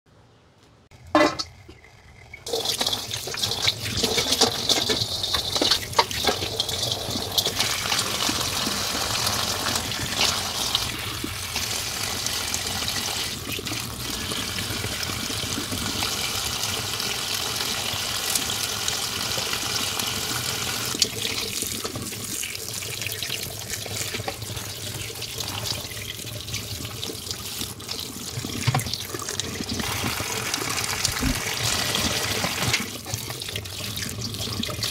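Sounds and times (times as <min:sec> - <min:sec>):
tap water running into colander: 0:01.1 - 0:34.9.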